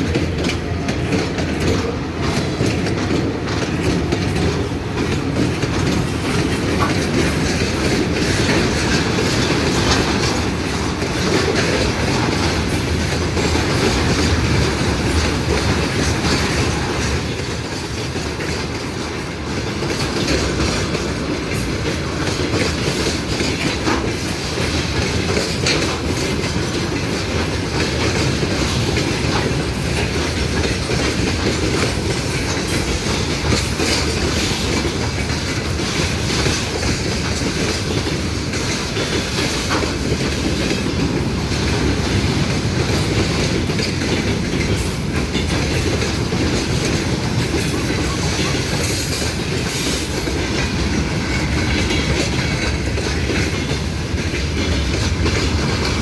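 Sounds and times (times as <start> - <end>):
railway cars rolling on rails: 0.0 - 56.0
wheels clacking over rail joints: 0.0 - 56.0.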